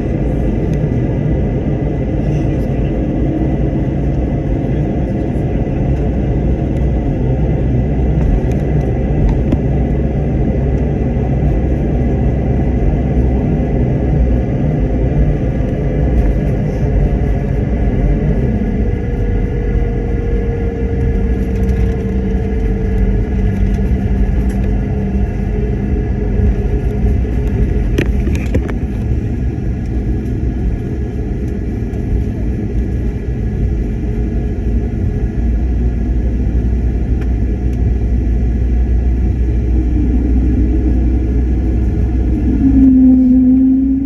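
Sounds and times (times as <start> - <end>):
airliner cabin rumble: 0.0 - 44.0
jet engines humming and whining: 0.0 - 44.0.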